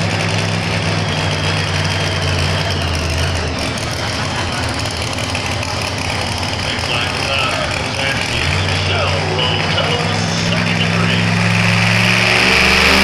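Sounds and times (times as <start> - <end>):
deep engine running: 0.0 - 13.0.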